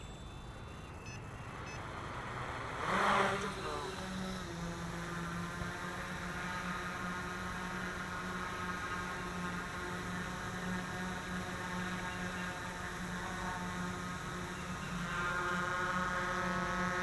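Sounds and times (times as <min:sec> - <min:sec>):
quadcopter hovering: 0:00.0 - 0:17.0.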